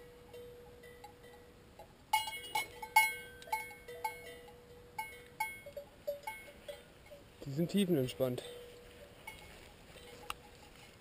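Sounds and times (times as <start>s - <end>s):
cowbell clanging: 0.0s - 11.0s.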